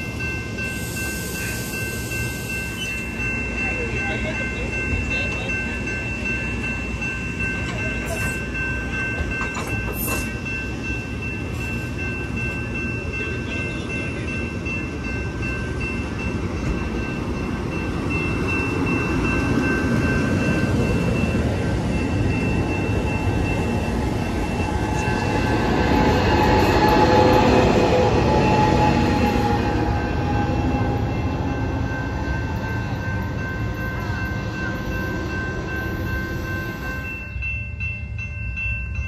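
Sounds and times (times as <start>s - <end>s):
diesel locomotive passing: 0.0s - 39.0s
train coaches rolling past: 0.0s - 39.0s.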